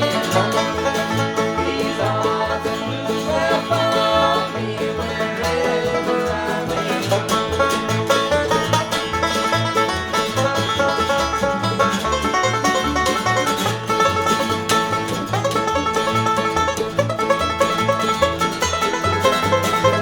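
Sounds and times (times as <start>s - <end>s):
banjo picking: 0.0s - 20.0s
bass line: 0.0s - 20.0s
guitar: 0.0s - 20.0s.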